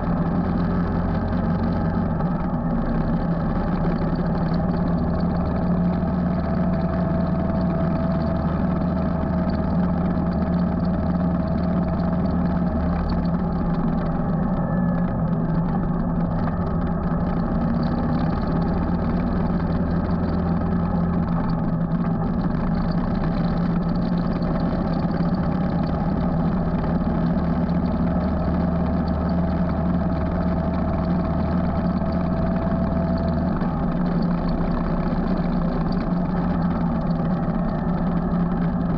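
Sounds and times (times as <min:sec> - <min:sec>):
motorcycle engine running: 0:00.0 - 0:38.9
road and wind noise: 0:00.0 - 0:38.9.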